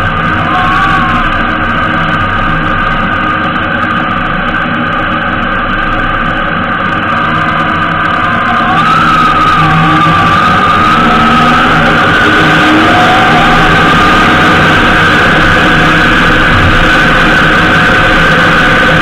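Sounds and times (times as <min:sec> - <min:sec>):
motorcycle engine: 0:00.0 - 0:19.0
road noise: 0:00.0 - 0:19.0.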